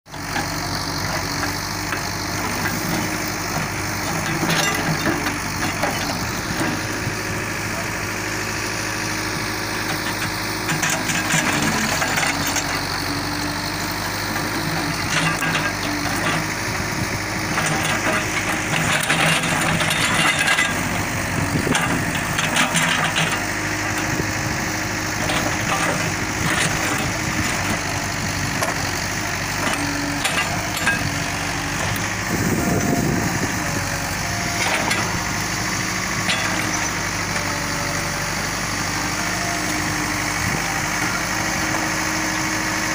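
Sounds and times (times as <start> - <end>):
diesel engine running: 0.1 - 42.9.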